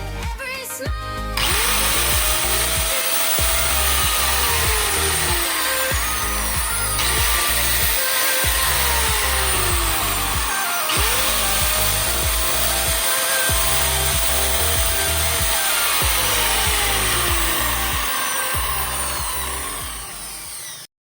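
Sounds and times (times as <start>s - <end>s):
background music: 0.0s - 20.8s
angle grinder whine: 0.0s - 20.9s.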